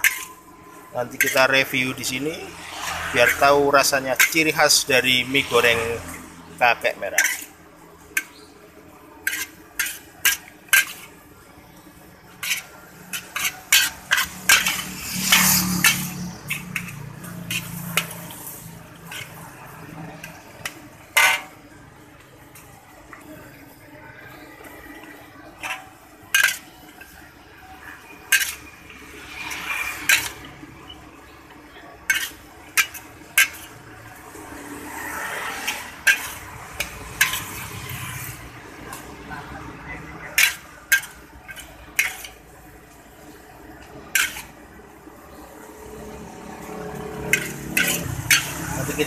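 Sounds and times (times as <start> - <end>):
metal spatula scraping wok: 0.0 - 49.0.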